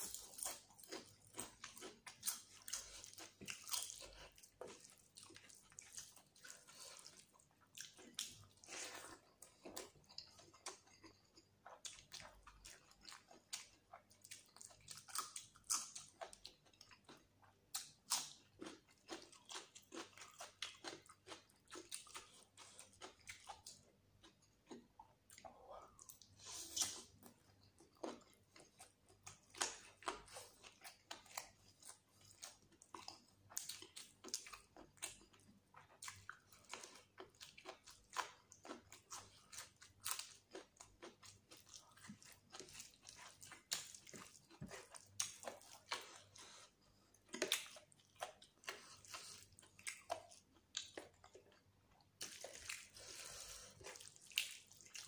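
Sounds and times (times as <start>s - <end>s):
wet chewing with mouth clicks: 0.0s - 55.0s.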